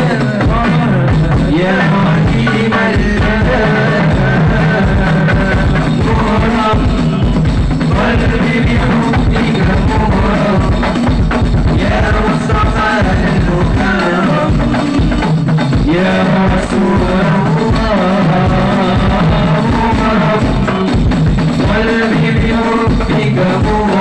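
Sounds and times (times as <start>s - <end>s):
floor drum beating: 0.0s - 24.0s
frame drums: 0.0s - 24.0s
man singing through pa system: 0.0s - 24.0s.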